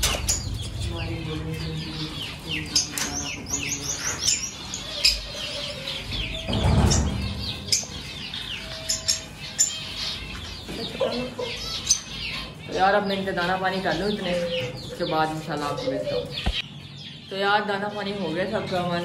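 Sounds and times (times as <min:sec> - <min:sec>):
cage birds chirping: 0:00.0 - 0:19.0.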